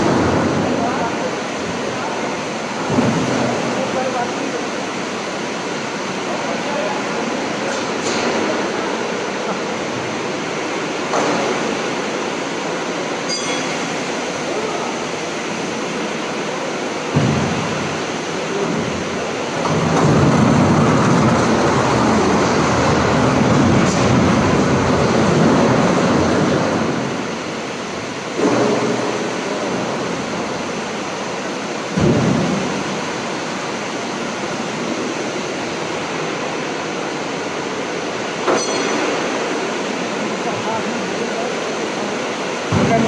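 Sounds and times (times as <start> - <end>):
loud rumbling noise: 0.0 - 43.0.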